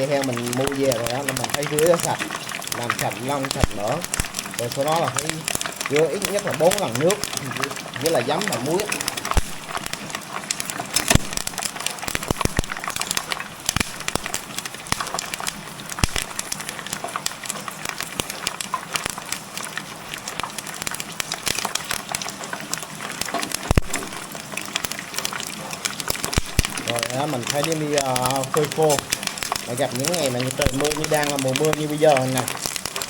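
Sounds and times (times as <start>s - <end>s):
pork skin sizzling in hot oil: 0.0s - 33.0s.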